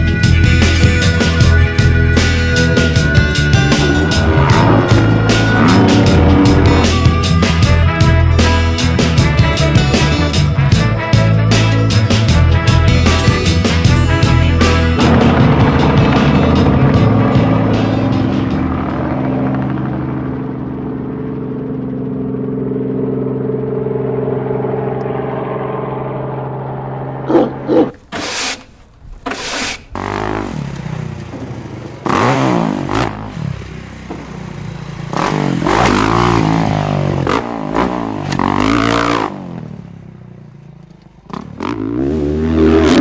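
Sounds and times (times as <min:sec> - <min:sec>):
dirt bike engines revving: 0:00.0 - 0:28.1, 0:29.8 - 0:43.0.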